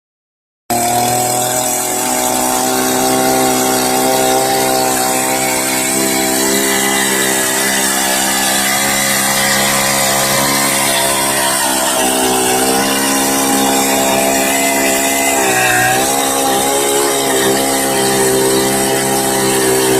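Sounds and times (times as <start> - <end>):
auger engine running: 0.7 - 19.9.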